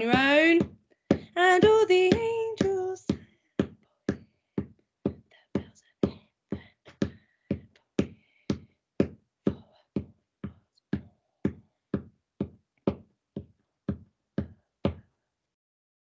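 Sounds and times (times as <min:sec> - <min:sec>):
steady sharp knocks: 0:00.0 - 0:15.0.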